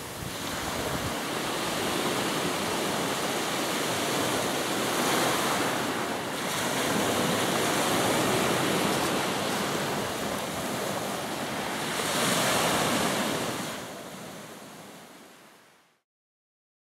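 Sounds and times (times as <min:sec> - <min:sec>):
waves washing onto beach: 0:00.0 - 0:15.9.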